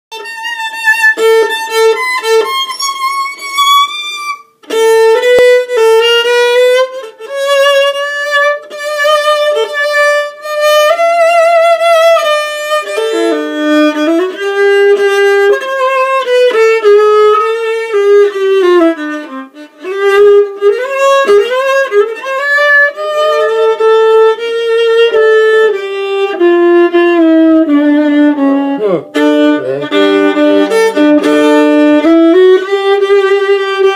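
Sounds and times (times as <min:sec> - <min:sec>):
solo violin melody: 0:00.1 - 0:33.9.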